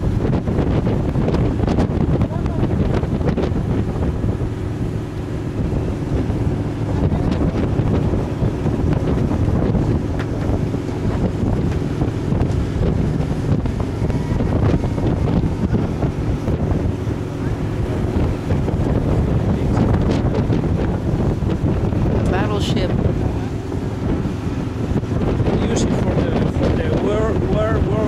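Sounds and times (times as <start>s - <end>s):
boat engine hum: 0.0s - 28.0s
water under boat: 0.0s - 28.0s
wind buffeting microphone: 0.0s - 28.0s.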